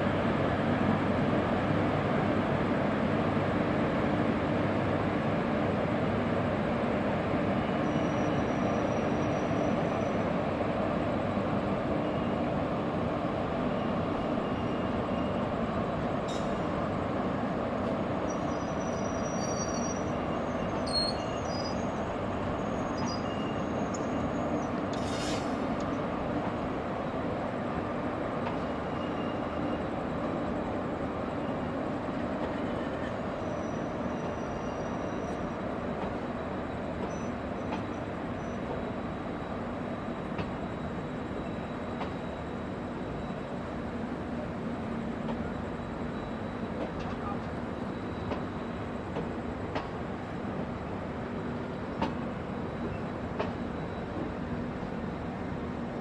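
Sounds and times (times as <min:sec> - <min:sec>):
electric locomotive and train running: 0:00.0 - 0:56.0.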